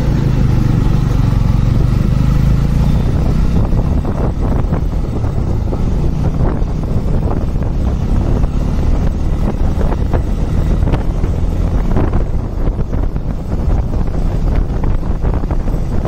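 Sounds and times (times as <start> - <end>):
motorcycle engine: 0.0 - 16.0
road noise: 0.0 - 16.0
wind rushing over microphone: 0.0 - 16.0.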